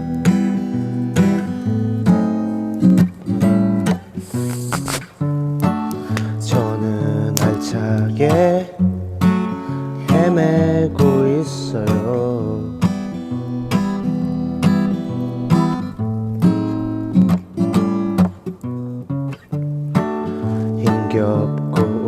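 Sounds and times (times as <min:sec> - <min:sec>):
acoustic guitar strummed and picked: 0:00.0 - 0:22.0.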